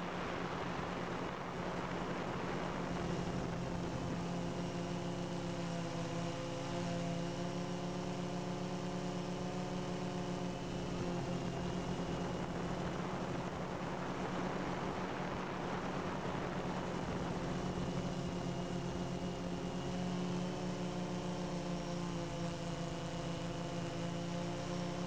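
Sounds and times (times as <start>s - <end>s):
drone propellers buzzing: 0.2s - 25.0s.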